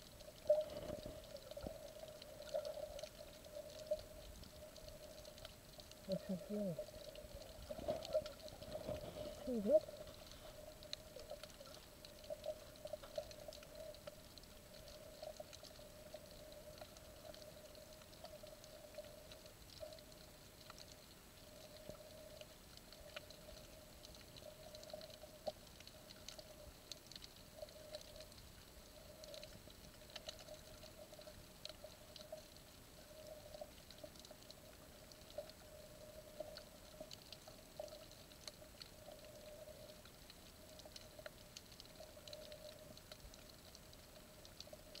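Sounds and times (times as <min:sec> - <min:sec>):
faint steady hum: 0:00.0 - 0:45.0
underwater ticking and crackling: 0:00.0 - 0:45.0.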